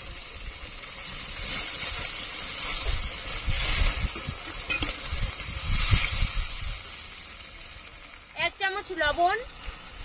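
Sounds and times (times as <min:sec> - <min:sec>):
water sizzling in hot pan: 0:00.0 - 0:10.0.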